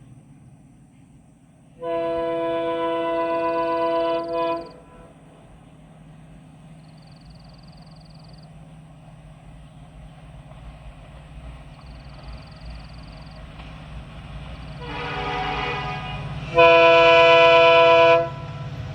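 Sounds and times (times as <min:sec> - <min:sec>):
diesel locomotive engine rumble: 0:00.0 - 0:18.9.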